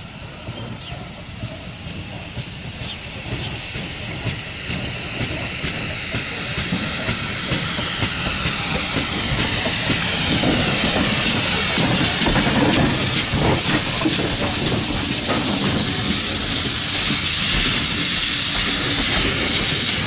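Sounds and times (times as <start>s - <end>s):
coaches rolling on rails: 0.0s - 20.0s
steam hissing: 0.0s - 20.0s
steam locomotive passing: 0.0s - 20.0s.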